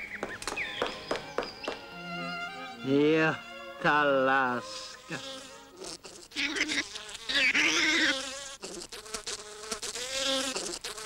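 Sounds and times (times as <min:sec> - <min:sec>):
cartoon buzzing insect whine: 0:01.9 - 0:11.0.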